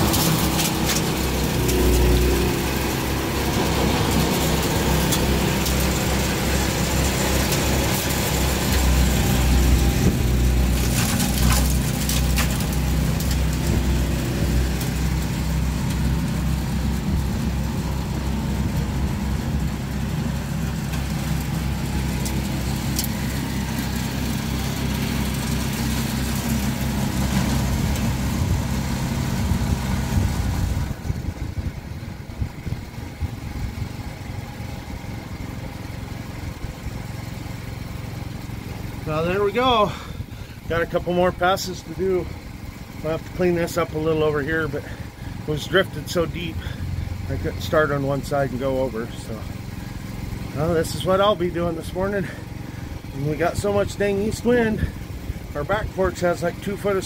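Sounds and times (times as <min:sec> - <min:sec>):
snow blower engine running: 0:00.0 - 0:57.0.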